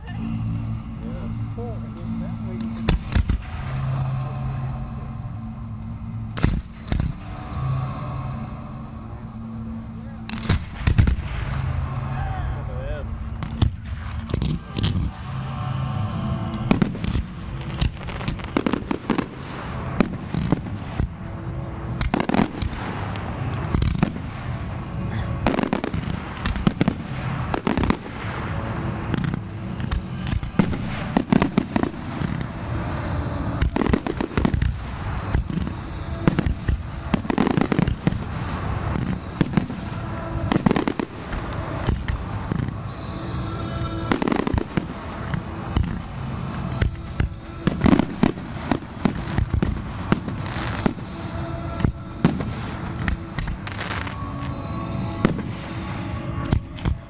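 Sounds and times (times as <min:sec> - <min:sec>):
fireworks bangs: 0:00.0 - 0:57.0
music playing: 0:00.0 - 0:57.0.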